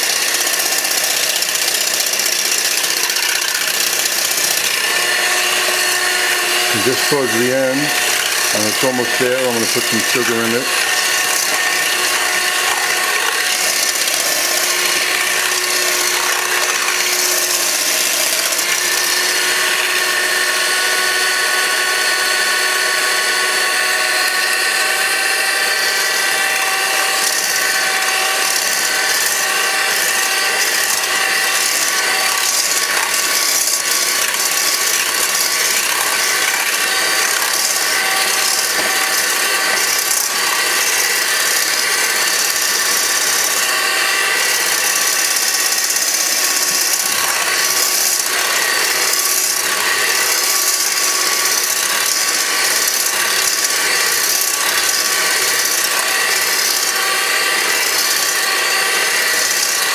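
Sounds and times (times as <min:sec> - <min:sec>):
electric hand mixer whining: 0:00.0 - 0:59.9.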